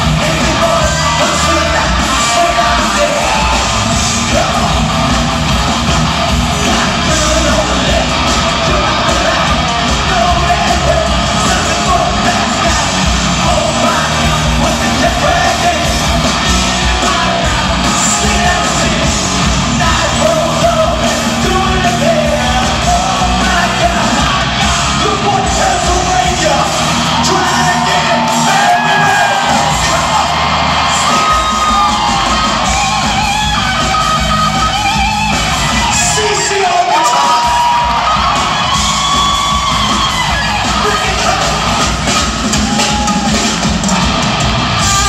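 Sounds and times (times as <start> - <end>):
person singing and yelling: 0.0 - 5.6, 6.3 - 33.7, 35.6 - 43.6
drums: 0.0 - 45.0
electric guitars: 0.0 - 45.0.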